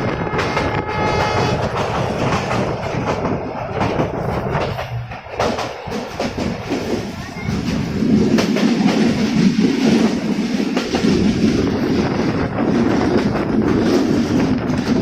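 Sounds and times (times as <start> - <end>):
train rumbling: 0.0 - 15.0
wheels clacking over rail joints: 0.0 - 15.0.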